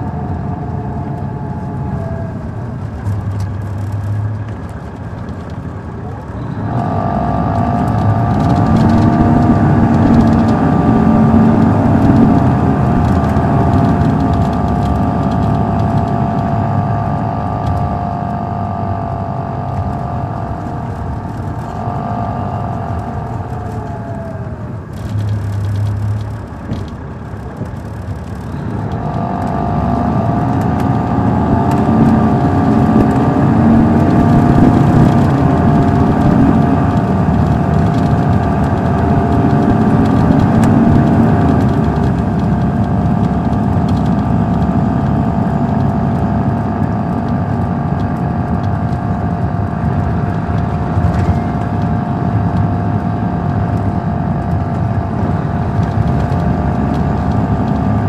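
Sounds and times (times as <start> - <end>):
bus diesel engine under load: 0.0 - 58.0
engine high whine: 0.0 - 58.0.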